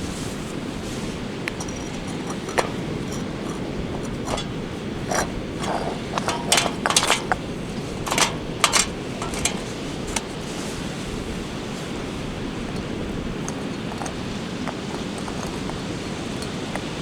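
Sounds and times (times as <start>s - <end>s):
wind: 0.0s - 17.0s
metallic clinks of camp gear: 1.0s - 10.9s, 12.6s - 17.0s.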